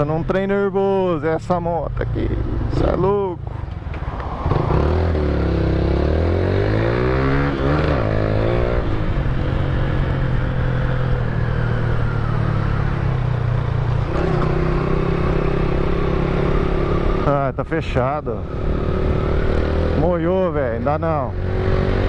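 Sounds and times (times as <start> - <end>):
motorcycle engine revving: 1.9 - 3.7, 4.3 - 22.0.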